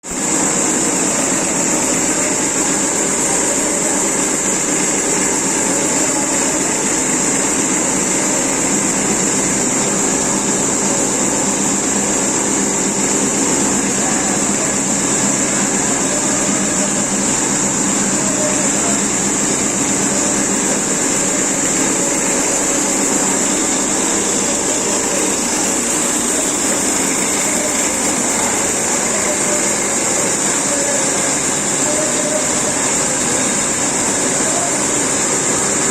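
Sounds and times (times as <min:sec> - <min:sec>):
high-pitched machine whine: 0:00.0 - 0:35.9
mechanical hum: 0:00.0 - 0:35.9.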